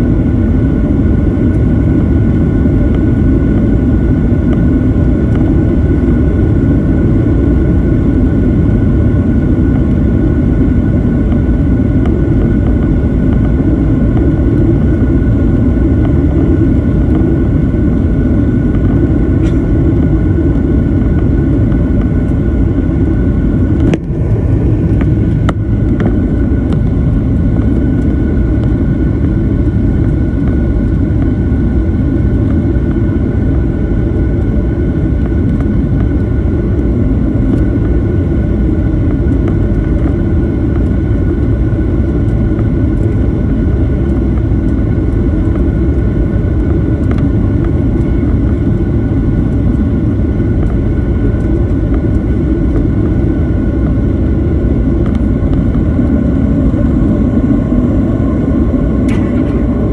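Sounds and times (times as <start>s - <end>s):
airliner engine rumble: 0.0s - 59.9s
whining engine tones: 0.0s - 59.9s.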